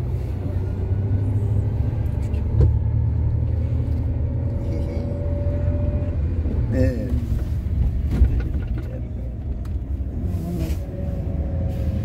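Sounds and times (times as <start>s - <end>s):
bus rumble from inside: 0.0s - 12.0s.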